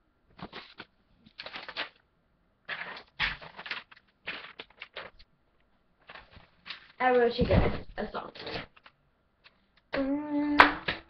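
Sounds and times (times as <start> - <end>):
rustling and handling noises: 0.3 - 9.9.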